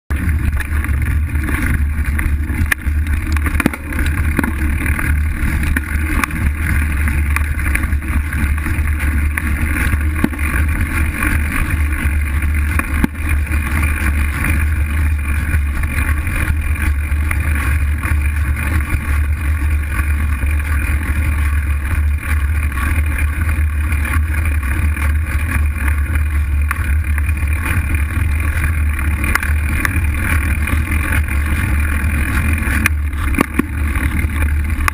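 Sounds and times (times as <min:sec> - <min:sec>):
fat tyre rolling over dirt: 0:00.1 - 0:34.9
wind rumble: 0:00.1 - 0:34.9.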